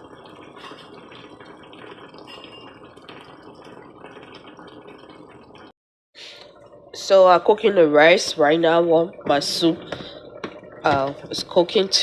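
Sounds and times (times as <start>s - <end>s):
stew bubbling in a pot: 0.0s - 12.0s.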